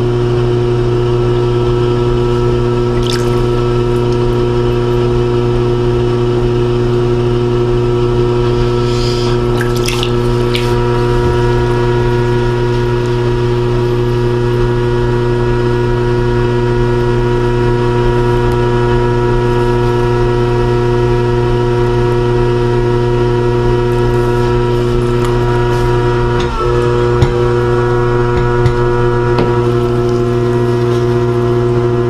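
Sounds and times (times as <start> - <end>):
potter's wheel motor humming: 0.0 - 32.0.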